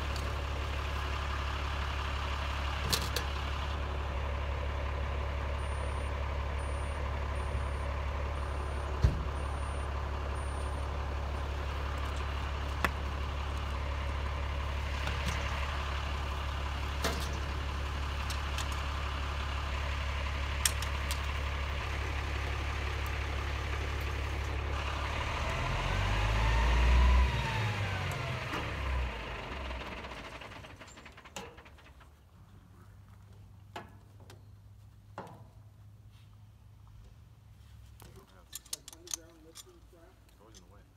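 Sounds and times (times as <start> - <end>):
truck engine idling: 0.0 - 33.7.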